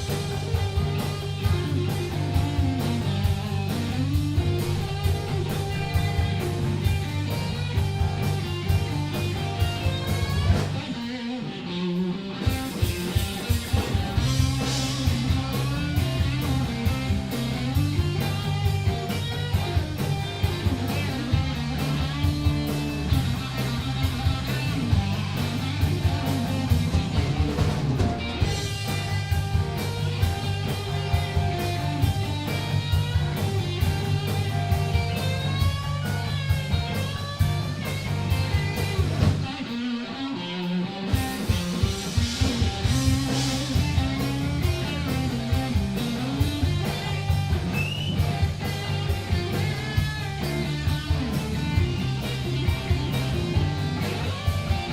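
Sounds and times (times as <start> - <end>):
rock song with electric guitar: 0.0 - 54.9.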